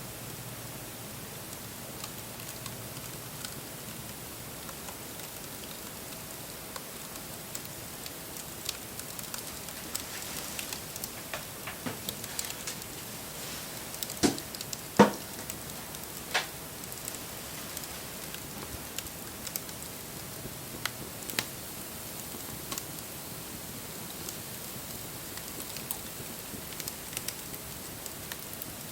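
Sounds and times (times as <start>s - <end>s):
wood fire crackling and popping: 0.8s - 28.9s.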